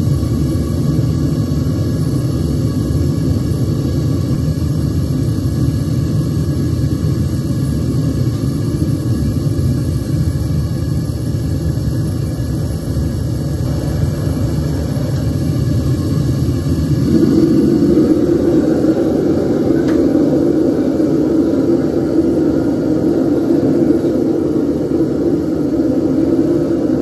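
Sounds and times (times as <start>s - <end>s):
gas burner roaring: 0.0s - 27.0s.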